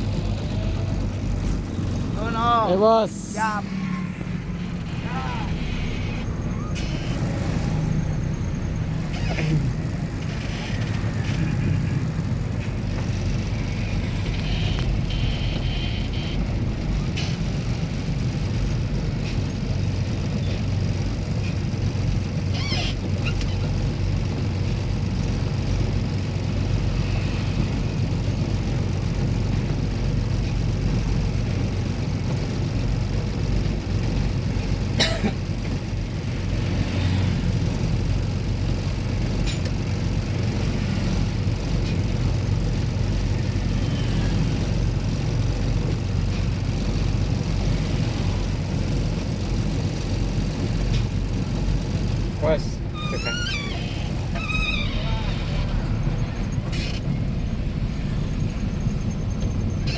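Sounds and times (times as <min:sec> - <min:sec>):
vehicle engine rumbling: 0:00.0 - 0:59.9.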